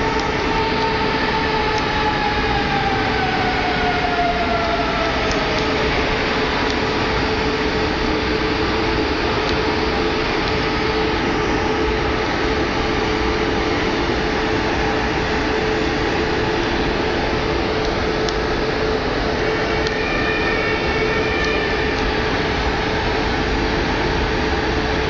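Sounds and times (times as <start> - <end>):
faint high whine: 0.0 - 25.0
train equipment hum: 0.0 - 25.0.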